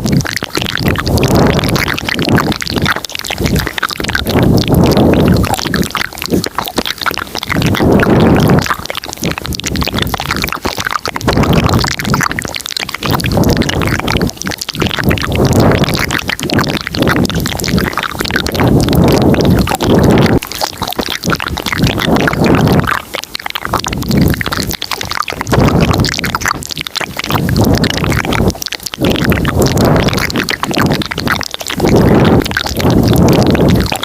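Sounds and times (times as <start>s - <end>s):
wet mouth clicks and smacks: 0.0s - 34.0s.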